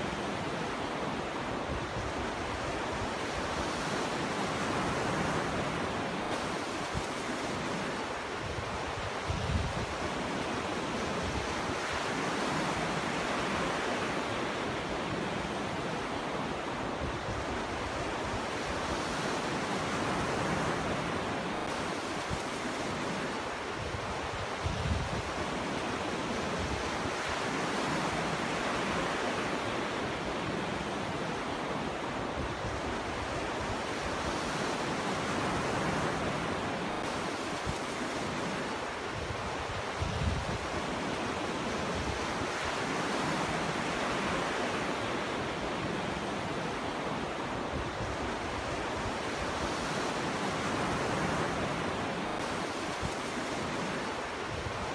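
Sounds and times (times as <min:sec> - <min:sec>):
ocean surf breaking: 0:00.0 - 0:54.9.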